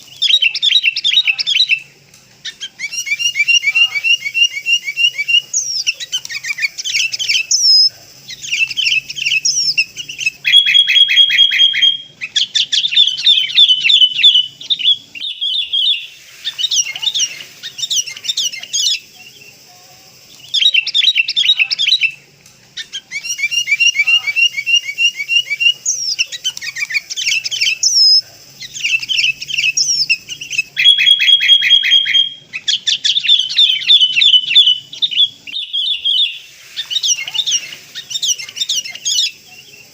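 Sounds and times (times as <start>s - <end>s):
bird calling and chattering: 0.0s - 39.9s.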